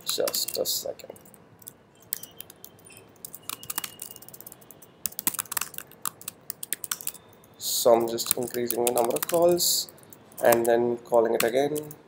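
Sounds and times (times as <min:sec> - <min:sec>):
typing on computer keyboard: 0:00.0 - 0:12.0.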